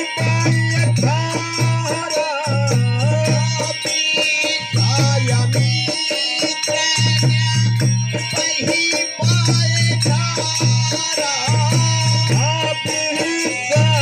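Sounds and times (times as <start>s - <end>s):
harmonium playing: 0.0s - 14.0s
rattling hand percussion: 0.0s - 14.0s.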